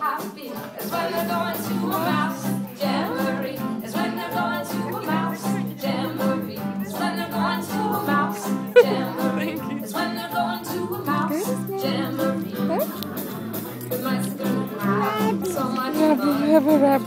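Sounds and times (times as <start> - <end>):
song with singing voice: 0.0 - 17.0.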